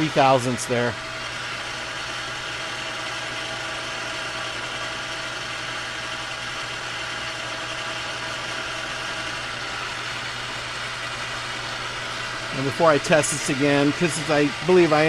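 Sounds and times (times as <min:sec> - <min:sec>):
metal lathe humming: 0:00.0 - 0:15.0.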